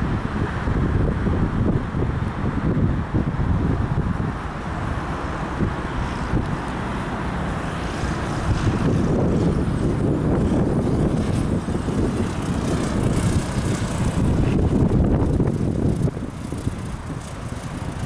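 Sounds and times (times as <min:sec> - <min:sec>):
light aircraft engine drone: 0:00.0 - 0:18.0
wind rumble on microphone: 0:00.0 - 0:18.0.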